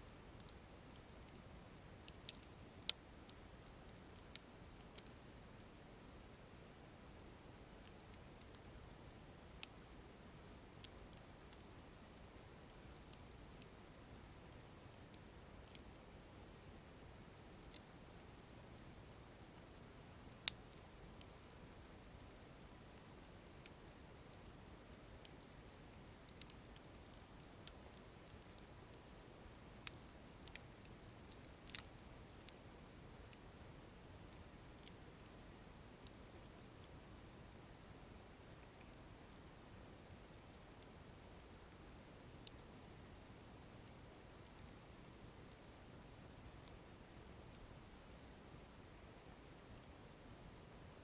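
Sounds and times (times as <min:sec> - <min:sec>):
low steady hiss: 0:00.0 - 0:51.0
firewood crackling and popping: 0:00.1 - 0:46.8.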